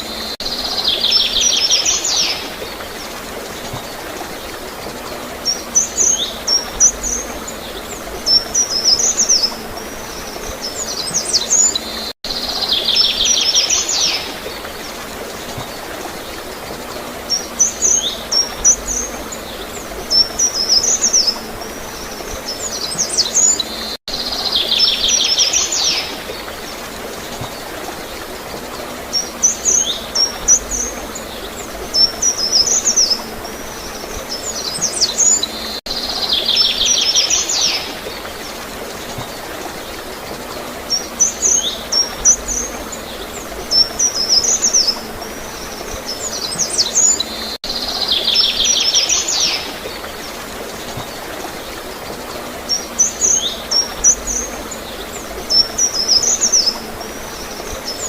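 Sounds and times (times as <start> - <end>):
gurgling flowing water: 0.0 - 58.0
small birds chirping: 0.0 - 58.0.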